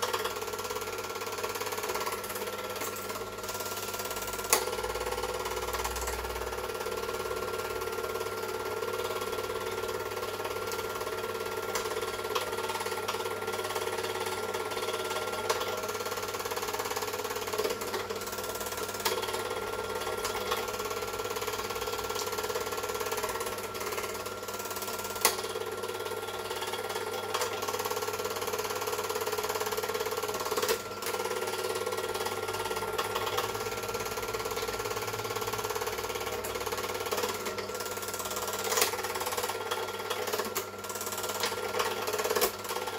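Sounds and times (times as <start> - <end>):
film projector running: 0.0 - 42.9.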